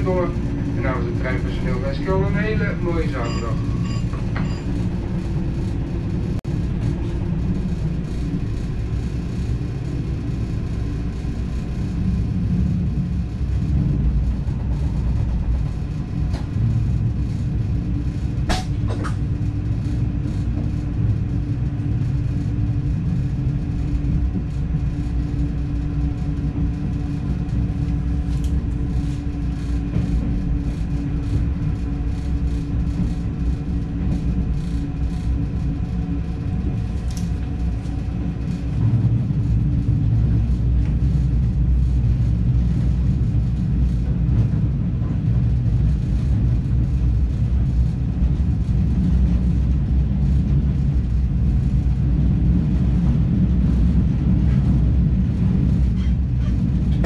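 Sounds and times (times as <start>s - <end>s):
steady hum: 0.0s - 57.0s
train low rumble: 0.0s - 57.0s.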